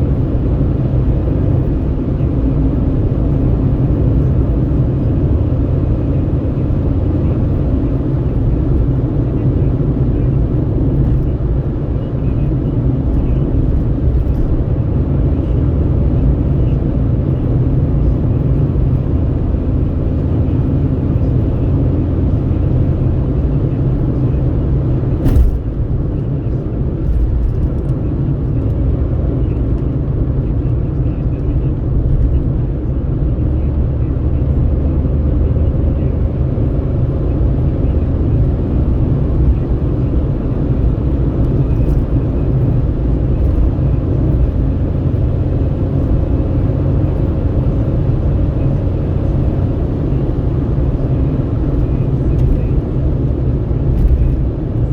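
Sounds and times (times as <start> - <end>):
road and engine rumble: 0.0 - 54.9
wind at open window: 0.0 - 54.9.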